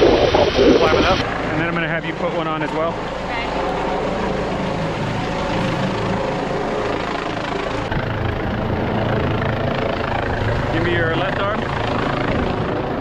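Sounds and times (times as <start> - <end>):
helicopter rotor and engine: 0.0 - 13.0.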